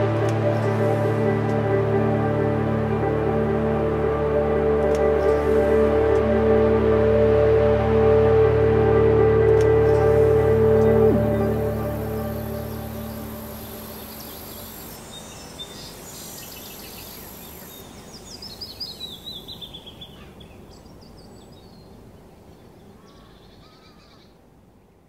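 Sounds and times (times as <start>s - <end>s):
birds chirping: 0.0s - 25.0s
steady background hiss: 0.0s - 25.0s.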